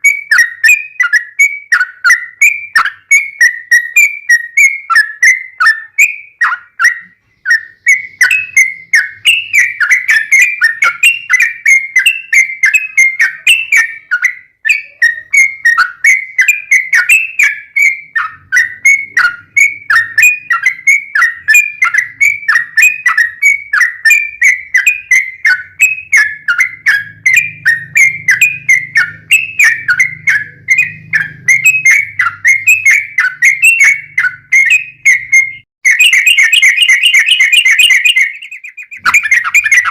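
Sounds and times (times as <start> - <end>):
bulbul singing whistled notes: 0.0 - 39.9.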